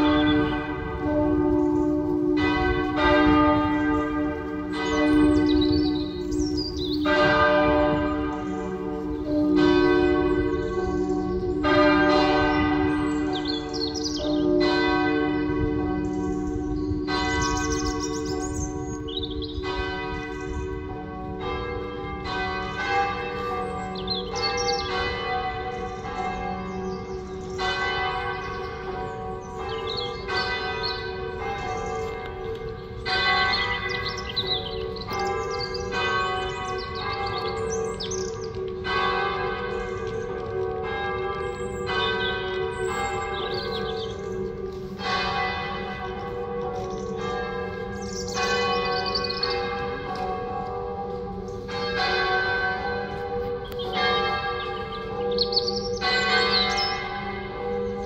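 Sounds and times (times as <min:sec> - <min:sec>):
half-muffled church bells ringing: 0:00.0 - 0:58.0.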